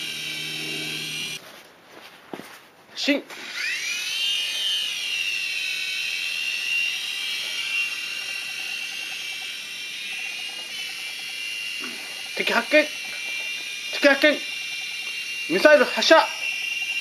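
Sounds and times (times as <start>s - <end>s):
toy helicopter motor whining: 0.0s - 1.4s, 3.3s - 17.0s.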